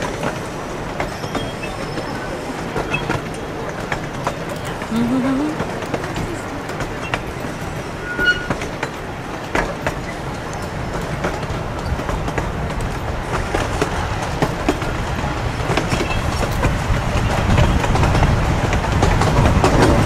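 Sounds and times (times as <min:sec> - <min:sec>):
ride train rumbling on track: 0:00.0 - 0:20.0
wheels clicking over rail joints: 0:00.0 - 0:20.0.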